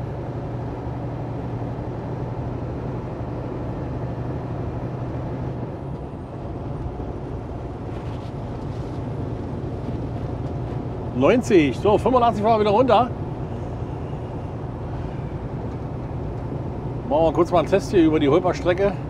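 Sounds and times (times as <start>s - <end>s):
road noise: 0.0s - 19.0s
truck engine drone: 0.0s - 19.0s.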